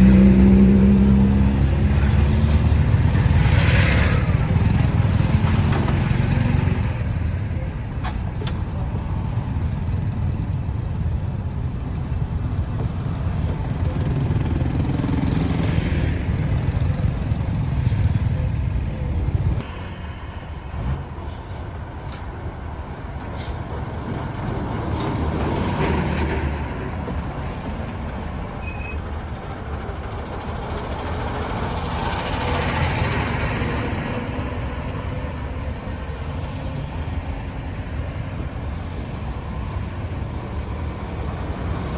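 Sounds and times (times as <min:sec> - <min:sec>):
road traffic noise: 0:00.0 - 0:41.9.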